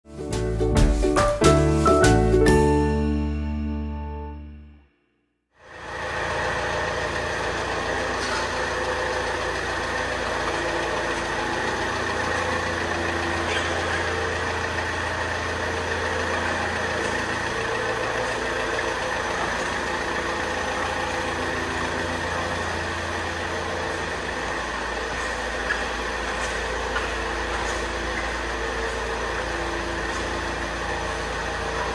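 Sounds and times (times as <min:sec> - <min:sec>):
car engine idling: 0:05.7 - 0:31.9.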